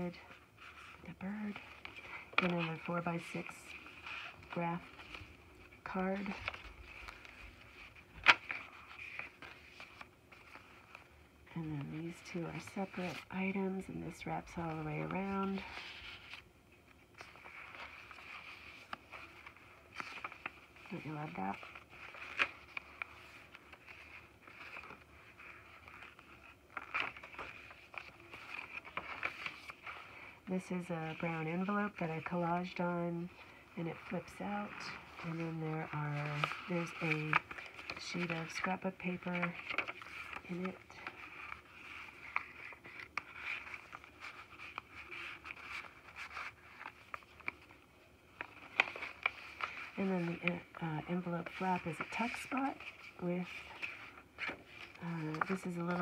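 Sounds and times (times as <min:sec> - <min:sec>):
paper pages rustling: 0:00.0 - 0:56.0.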